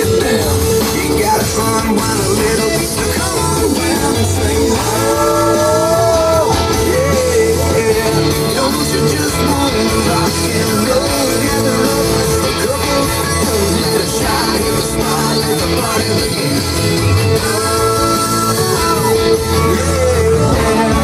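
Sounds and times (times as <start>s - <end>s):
rock and roll song with guitar: 0.0s - 21.0s.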